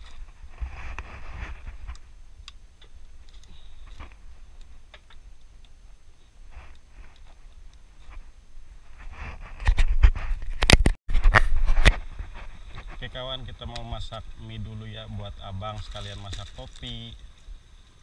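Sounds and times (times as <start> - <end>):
rough crackling noise: 0.0 - 18.0.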